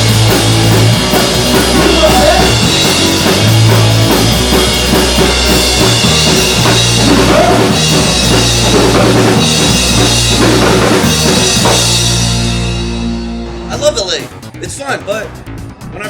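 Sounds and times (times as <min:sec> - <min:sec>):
bass line: 0:00.0 - 0:16.0
driving drum kit: 0:00.0 - 0:16.0
rock band playing loudly: 0:00.0 - 0:16.0.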